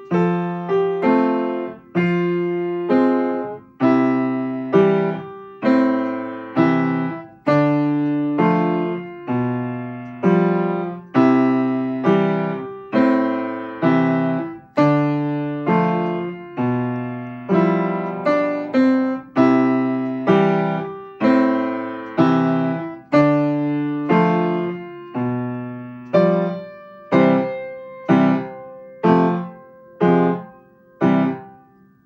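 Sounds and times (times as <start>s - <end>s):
upright piano chords: 0.0s - 32.0s.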